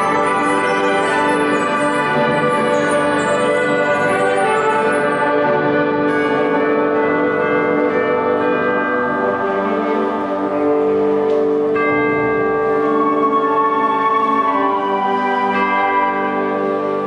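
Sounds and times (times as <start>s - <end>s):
wind band playing chords: 0.0s - 17.0s.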